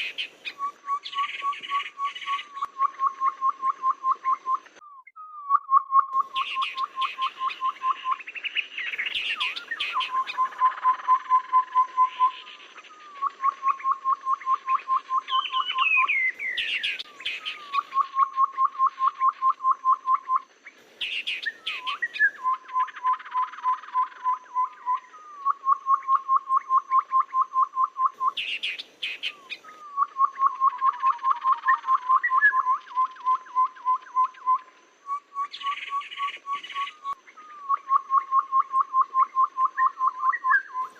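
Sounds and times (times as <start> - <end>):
bird chirps and twittering: 0.0 - 40.9
bird piping notes: 0.0 - 40.9.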